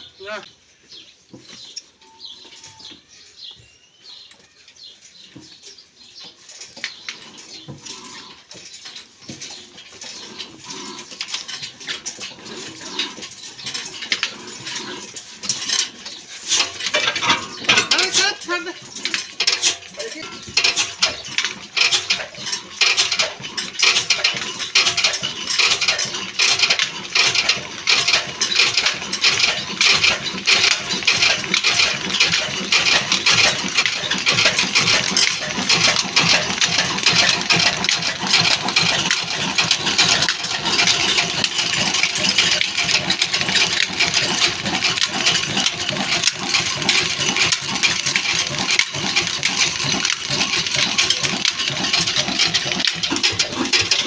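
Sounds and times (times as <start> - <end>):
diesel engine clattering: 6.7 - 54.0.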